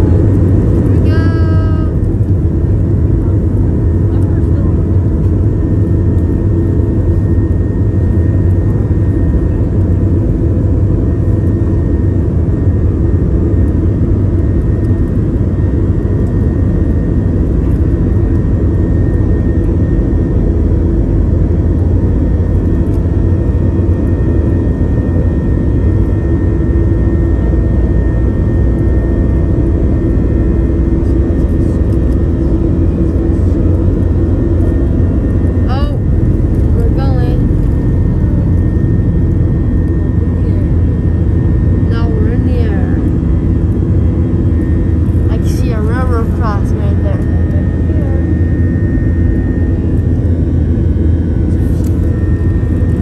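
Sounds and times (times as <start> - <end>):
jet engine cabin rumble: 0.0 - 53.0.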